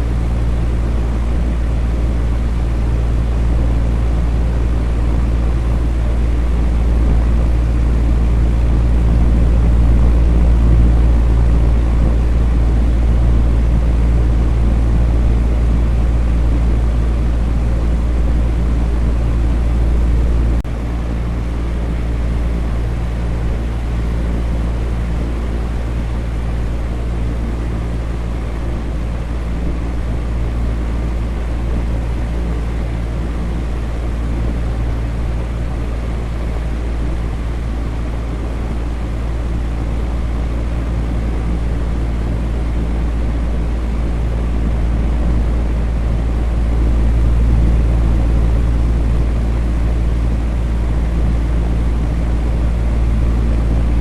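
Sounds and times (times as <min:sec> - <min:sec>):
electric fan motor hum: 0:00.0 - 0:54.0.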